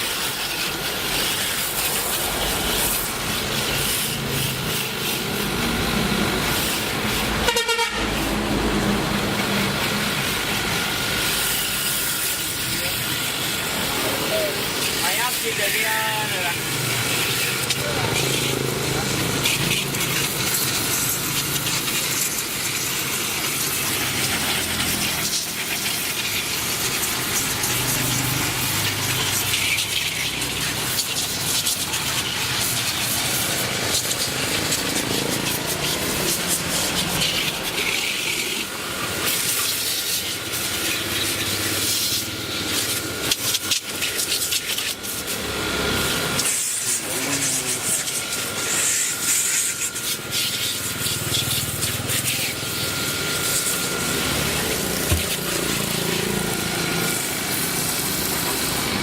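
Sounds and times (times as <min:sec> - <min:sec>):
small motor running with hiss: 0:00.0 - 0:59.0.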